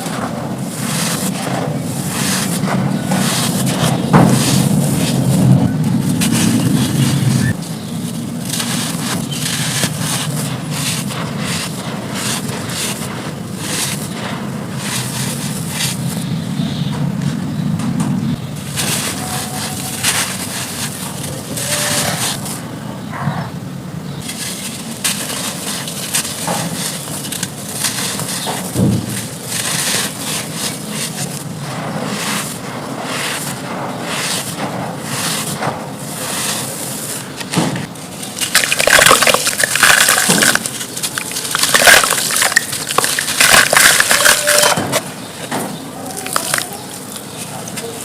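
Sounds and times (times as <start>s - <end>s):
brittle chunks crunching: 0.0s - 16.3s, 18.6s - 22.6s, 24.2s - 33.6s, 34.4s - 48.0s.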